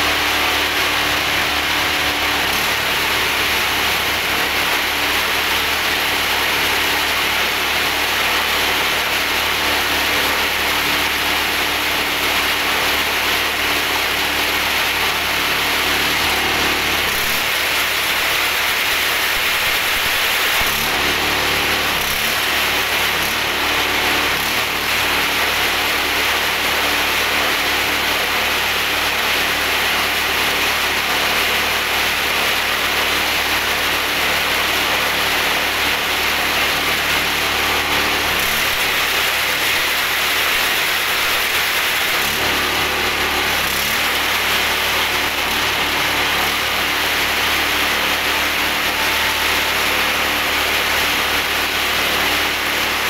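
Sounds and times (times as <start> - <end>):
small engine running steadily: 0.0 - 53.0.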